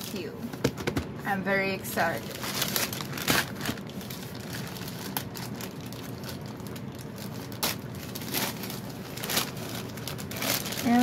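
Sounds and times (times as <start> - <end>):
plastic mailer bag crinkling: 2.0 - 11.0.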